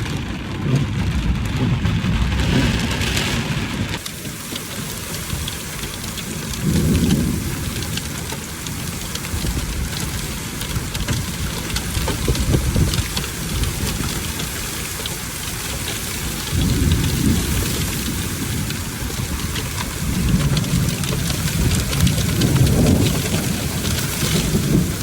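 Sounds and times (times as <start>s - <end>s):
heavy rain with hail: 0.0s - 25.0s
low rumbles: 0.0s - 25.0s.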